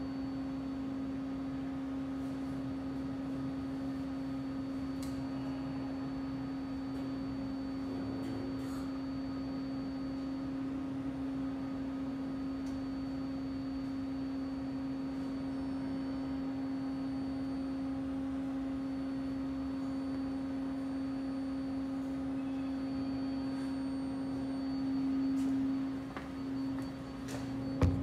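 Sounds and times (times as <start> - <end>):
subway car electrical hum: 0.0 - 28.0.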